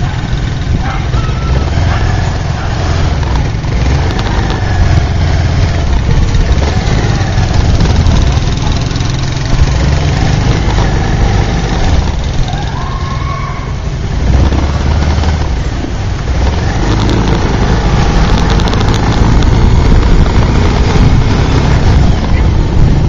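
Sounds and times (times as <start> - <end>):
motorbike engine running slowly: 0.0 - 13.0, 14.4 - 23.0
traffic engines and road noise: 0.0 - 23.0.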